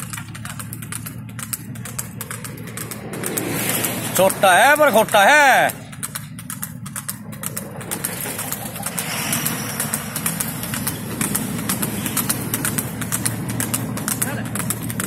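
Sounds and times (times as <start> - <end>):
sharp irregular clicks: 0.0 - 15.0
vehicle engine running: 0.0 - 15.0.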